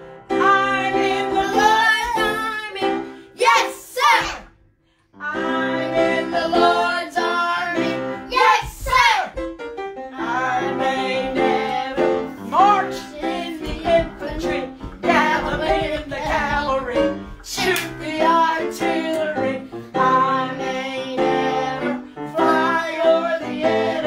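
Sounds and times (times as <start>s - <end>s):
piano accompaniment: 0.0s - 3.6s, 5.2s - 24.0s
woman and children singing: 0.3s - 4.4s, 5.2s - 9.4s, 10.2s - 24.0s.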